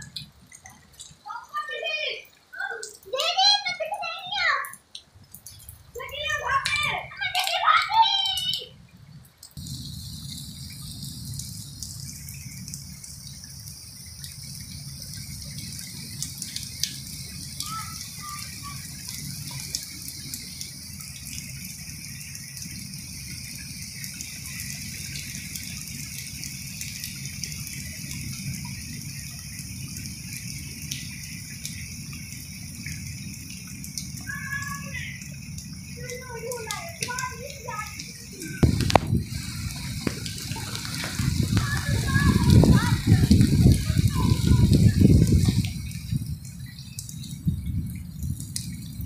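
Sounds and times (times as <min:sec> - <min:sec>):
heavy rain on a courtyard: 0:00.0 - 0:49.0.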